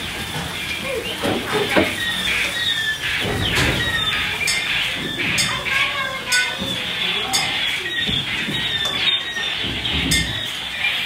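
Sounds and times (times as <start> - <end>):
noisy bursts: 0.0 - 11.0.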